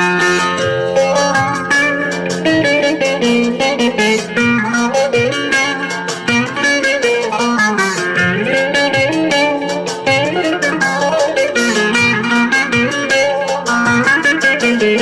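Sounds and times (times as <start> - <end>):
electric saz melody: 0.0 - 15.0.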